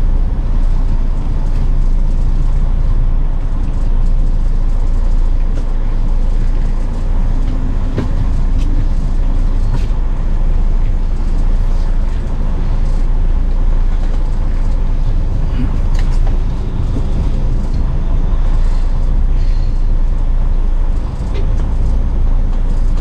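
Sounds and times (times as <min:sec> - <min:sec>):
diesel truck engine rumbling: 0:00.0 - 0:23.0.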